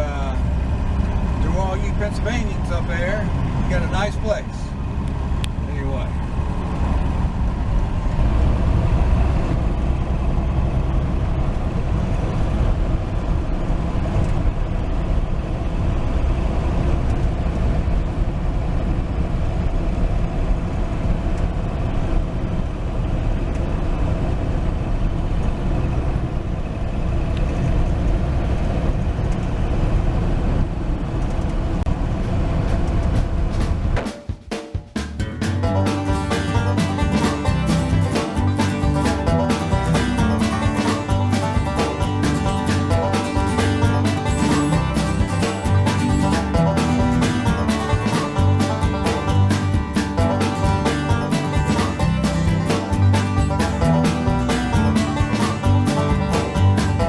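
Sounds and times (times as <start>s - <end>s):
pickup truck engine running: 0.0s - 34.1s, 35.0s - 57.0s
road noise: 0.0s - 57.0s.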